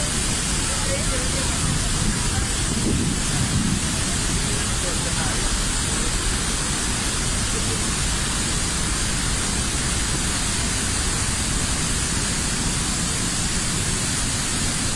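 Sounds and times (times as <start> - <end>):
waterfall roaring: 0.0 - 14.9.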